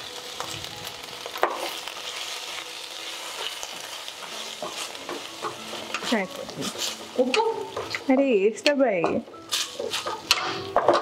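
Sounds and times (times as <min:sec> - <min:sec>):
vegetables sizzling in sauce: 0:00.0 - 0:11.0.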